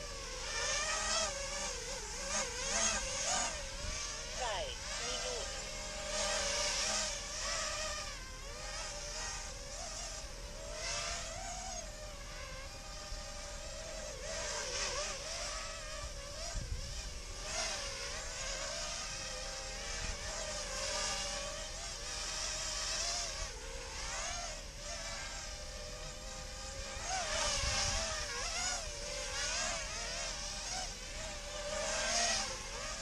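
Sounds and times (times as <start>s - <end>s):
drone motors buzzing: 0.0s - 33.0s.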